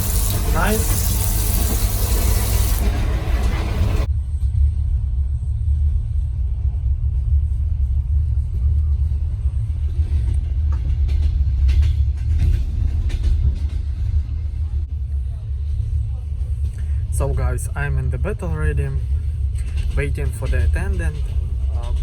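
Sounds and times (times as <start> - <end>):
train rumble from inside carriage: 0.0 - 22.0.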